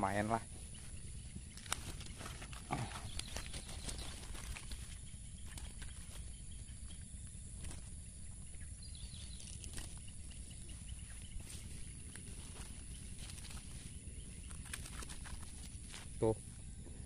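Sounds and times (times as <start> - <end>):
fish tapping and rustling on grass: 0.6 - 16.3.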